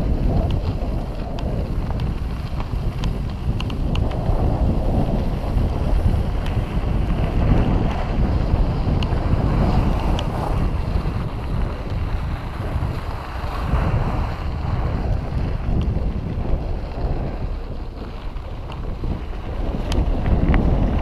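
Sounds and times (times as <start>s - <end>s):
tyres rolling over gravel: 0.0s - 21.0s
wind rushing over microphone: 0.0s - 21.0s.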